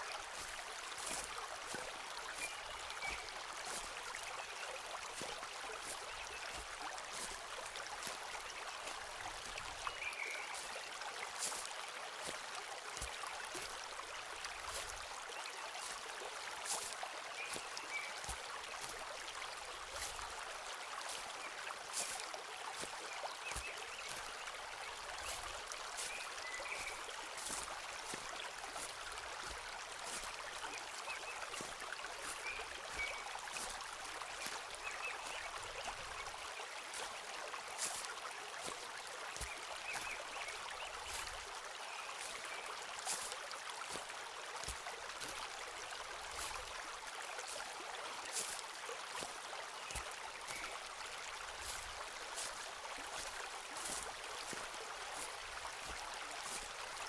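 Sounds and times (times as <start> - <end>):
footsteps crunching on forest path: 0.0 - 57.0
stream rushing: 0.0 - 57.0.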